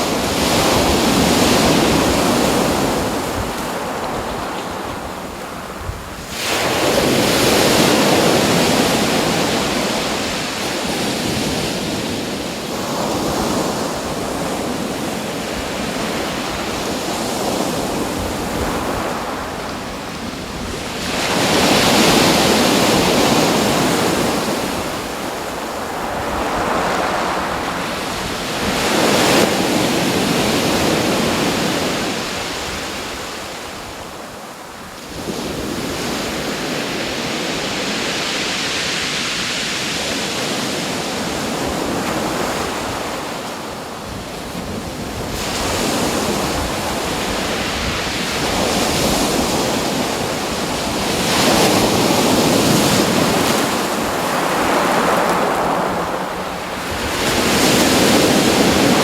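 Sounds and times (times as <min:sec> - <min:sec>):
waves breaking and washing in: 0:00.0 - 0:59.0.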